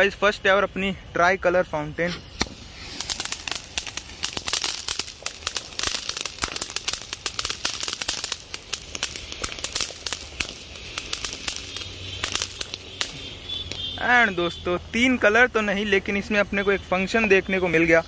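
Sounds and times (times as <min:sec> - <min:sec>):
firework hissing and crackling: 0:00.0 - 0:18.0.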